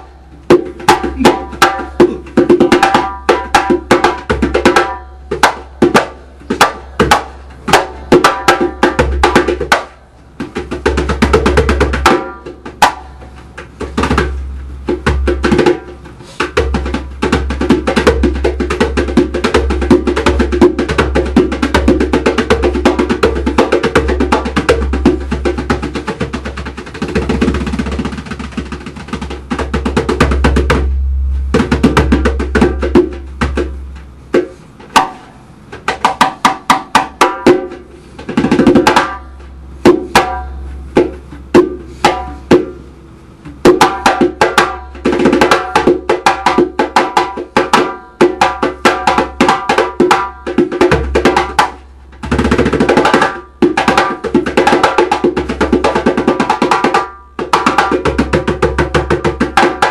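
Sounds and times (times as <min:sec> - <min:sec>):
hand drum playing: 0:00.0 - 0:59.9.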